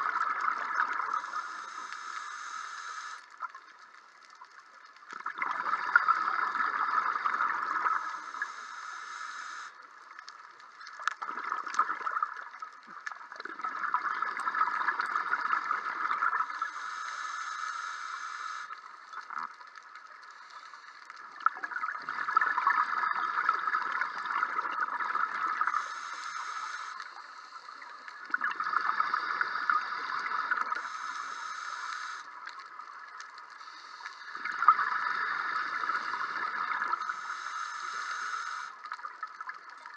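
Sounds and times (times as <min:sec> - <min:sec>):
underwater exhaled bubbles: 0:00.0 - 0:02.2, 0:03.3 - 0:08.6, 0:10.2 - 0:16.9, 0:18.5 - 0:39.9.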